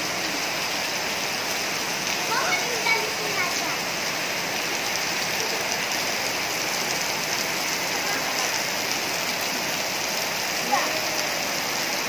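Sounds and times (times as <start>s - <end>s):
heavy rain on brick paving: 0.0s - 12.0s.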